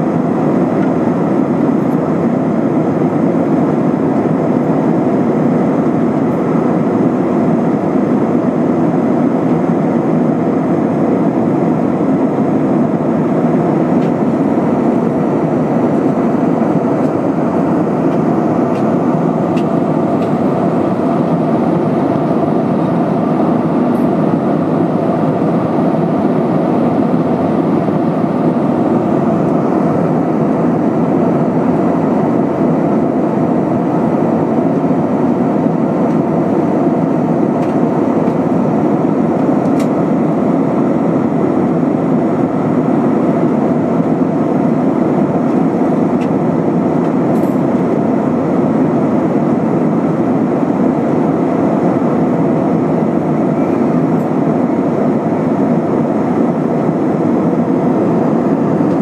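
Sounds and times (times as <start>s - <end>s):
airflow rush in cabin: 0.0s - 59.0s
jet engines humming: 0.0s - 59.0s.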